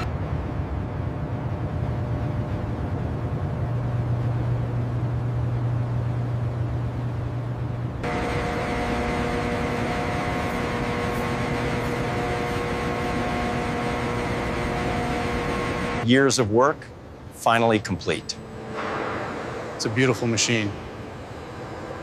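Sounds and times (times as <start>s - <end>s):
low mechanical rumble with hum: 0.0s - 22.0s
noisy drone with whining tones: 0.0s - 22.0s.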